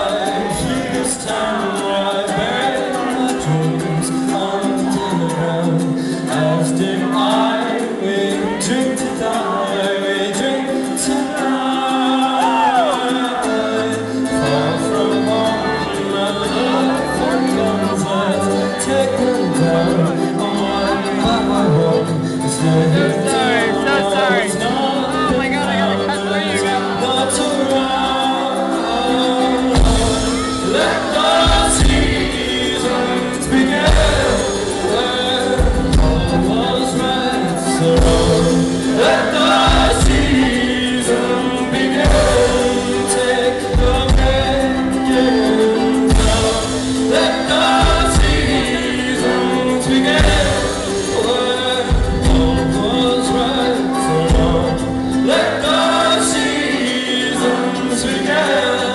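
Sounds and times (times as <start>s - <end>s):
folk brass band playing: 0.0s - 58.9s
singing: 0.0s - 58.9s.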